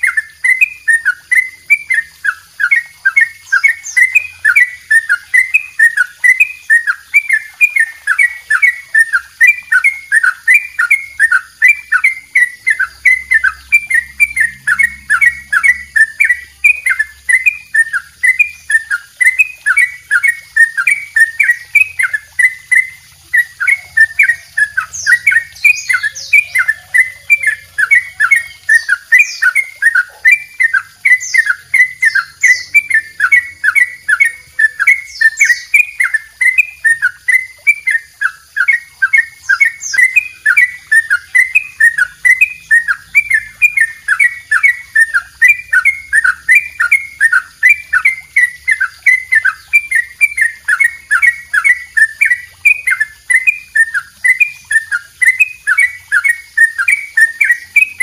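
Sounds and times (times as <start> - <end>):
bird trilling: 0.0 - 58.0
high thin bird chirps: 0.0 - 58.0.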